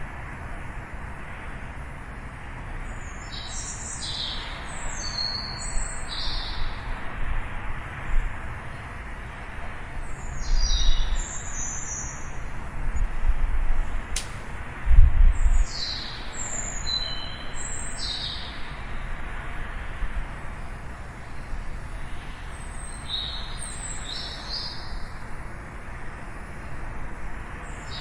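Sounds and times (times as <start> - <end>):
songbirds chirping: 0.2 - 13.2, 13.8 - 28.0.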